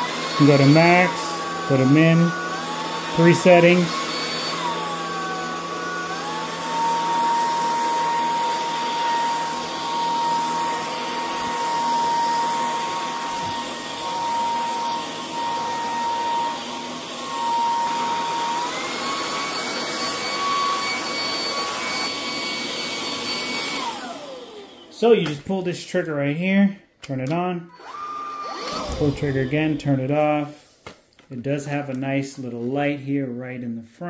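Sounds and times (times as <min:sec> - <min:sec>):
vacuum motor whining: 0:00.0 - 0:25.1, 0:27.7 - 0:30.0
vacuum head pushed over carpet: 0:00.0 - 0:25.4, 0:27.8 - 0:30.0.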